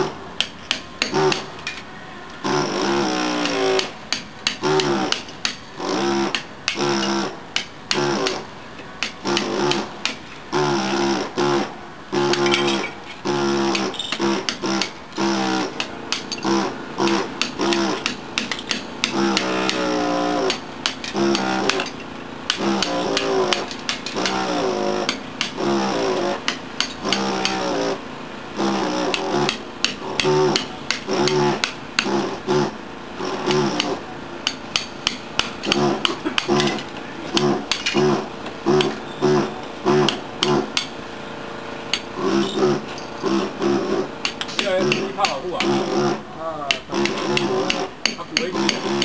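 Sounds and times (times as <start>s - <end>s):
air hammer buzzing: 0.0s - 49.0s.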